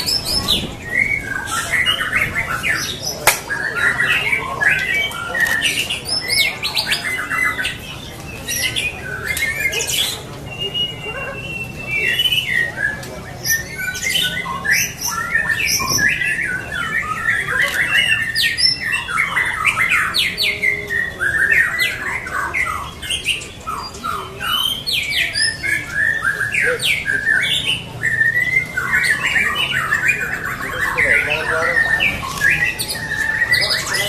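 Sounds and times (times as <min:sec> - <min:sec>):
bird singing whistled notes: 0:00.0 - 0:34.0.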